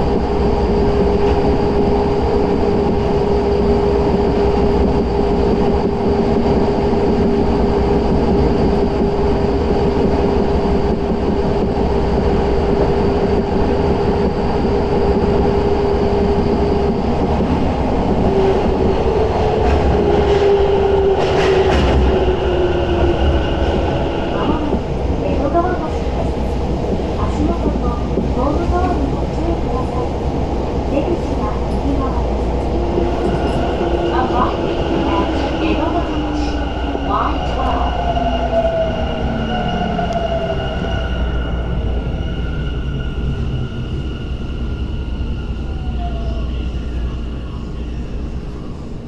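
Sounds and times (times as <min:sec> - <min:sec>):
wheels rumbling on rail: 0:00.0 - 0:49.0.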